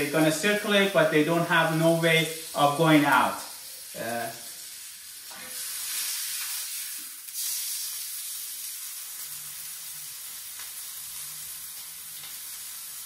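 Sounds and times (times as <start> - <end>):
meat sizzling in a hot pan: 0.0 - 13.0.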